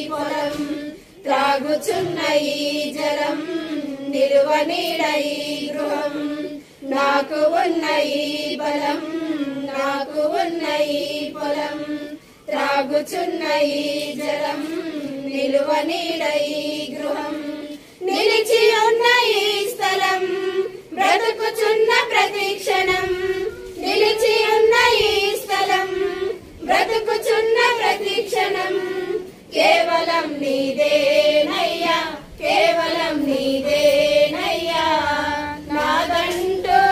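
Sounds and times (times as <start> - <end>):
women singing in unison: 0.0 - 36.9.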